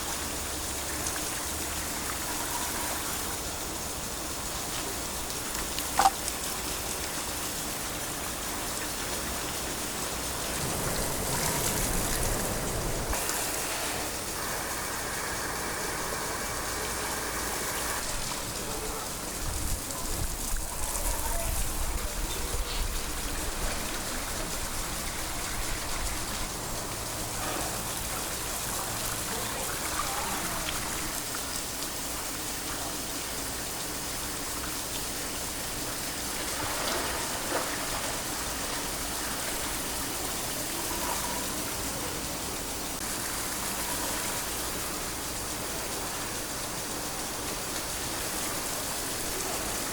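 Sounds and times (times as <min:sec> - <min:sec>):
water rushing: 0:00.0 - 0:49.9.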